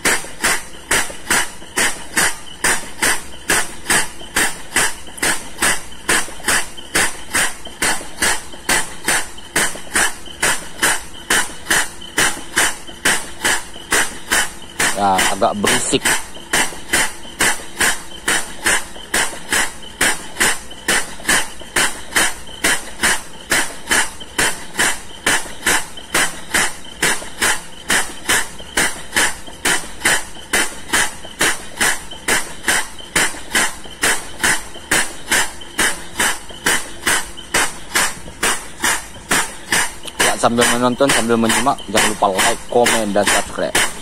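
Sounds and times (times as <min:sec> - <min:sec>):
air-driven diaphragm pump running: 0:00.0 - 0:44.0.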